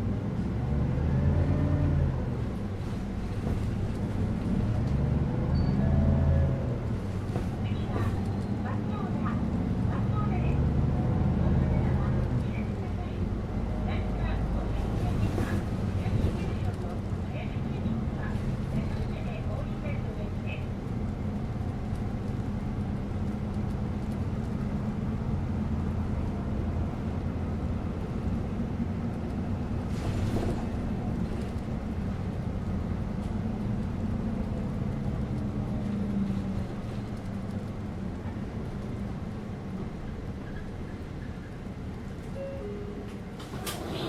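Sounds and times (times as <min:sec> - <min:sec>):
bus engine hum: 0:00.0 - 0:44.0
road noise: 0:00.0 - 0:44.0.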